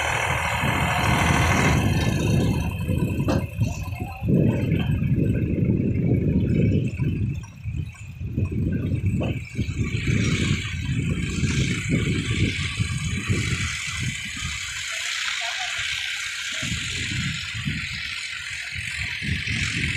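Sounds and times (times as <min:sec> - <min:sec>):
diesel tractor engines idling: 0:00.0 - 0:19.9.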